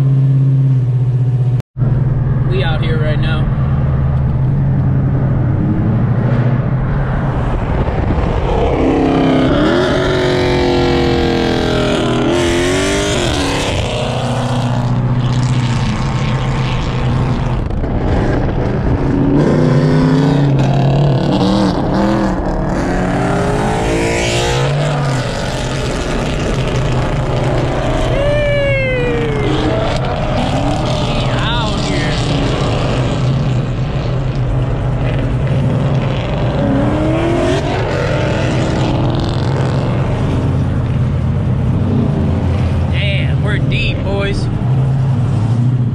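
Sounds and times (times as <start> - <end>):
car engines revving: 0.0 - 45.9
road noise inside car: 0.0 - 45.9.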